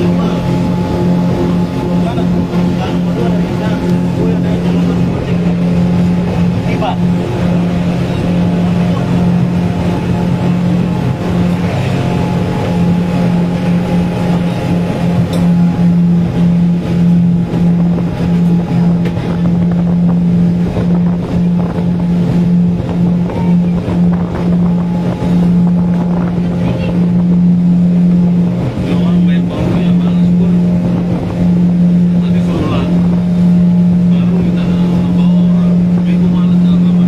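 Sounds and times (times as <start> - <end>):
outboard motor droning: 0.0 - 37.0
rushing wind: 0.0 - 37.0
water noise: 0.0 - 37.0.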